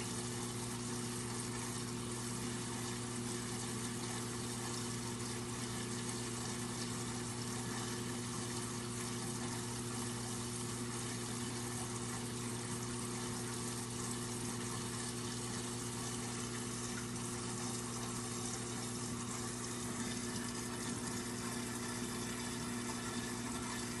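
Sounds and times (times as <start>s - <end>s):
circulating water hiss: 0.0s - 24.0s
low pump hum: 0.0s - 24.0s.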